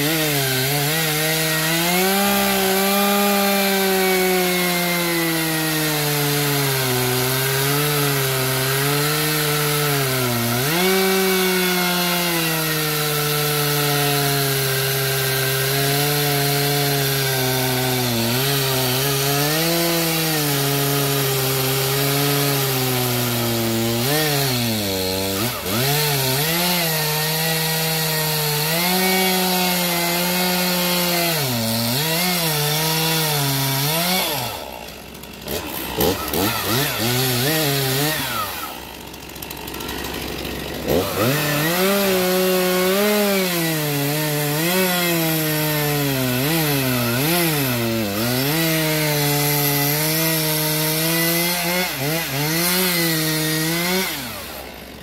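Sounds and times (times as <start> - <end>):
chainsaw cutting wood: 0.0 - 55.0
chainsaw idling: 0.0 - 55.0.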